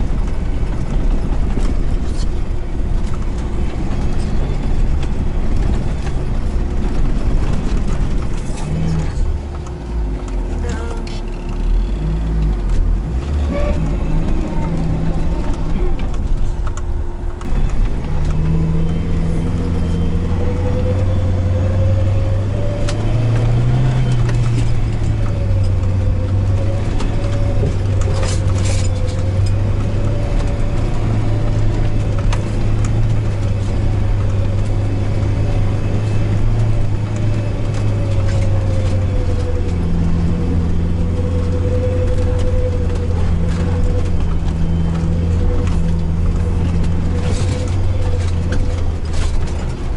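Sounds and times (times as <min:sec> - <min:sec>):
drivetrain whine: 0:00.0 - 0:49.9
van engine droning: 0:00.0 - 0:49.9.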